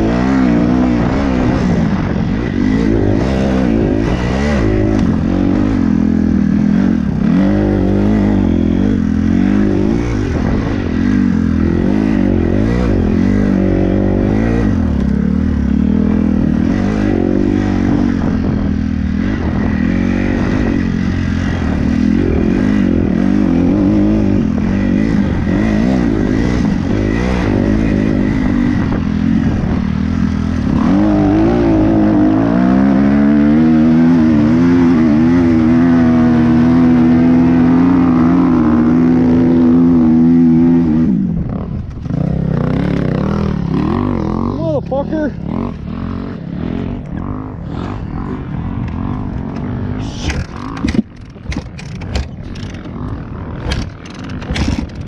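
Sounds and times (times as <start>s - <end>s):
dirt bike engine revving: 0.0s - 55.0s
wind noise: 0.0s - 55.0s.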